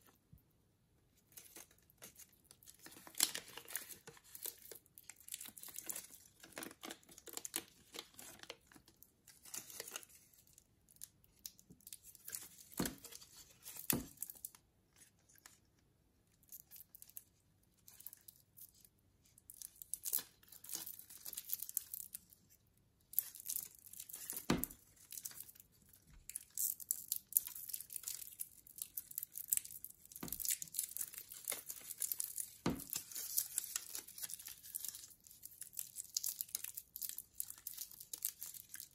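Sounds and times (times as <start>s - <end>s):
plastic wrapping crinkling: 1.2s - 15.7s, 19.5s - 22.5s, 23.1s - 38.9s.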